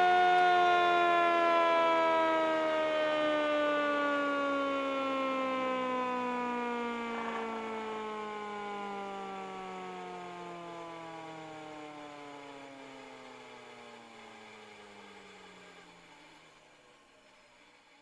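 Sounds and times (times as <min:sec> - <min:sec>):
jointer motor whine winding down: 0:00.0 - 0:15.6.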